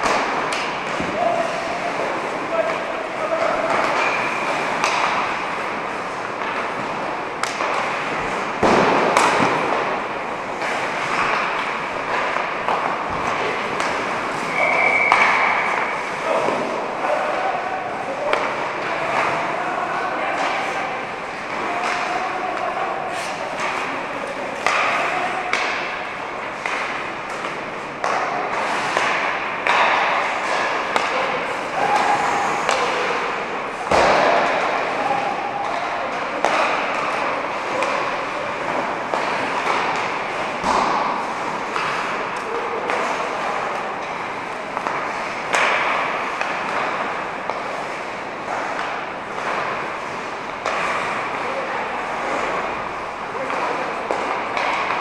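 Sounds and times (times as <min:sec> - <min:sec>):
pucks knocking against boards: 0:00.0 - 0:17.4, 0:20.3 - 0:55.0
hockey sticks striking pucks: 0:00.0 - 0:55.0.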